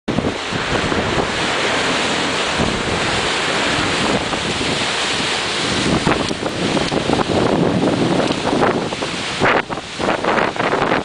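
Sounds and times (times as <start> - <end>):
choppy sea rushing: 0.1 - 11.0
wind buffeting microphone: 0.1 - 11.0.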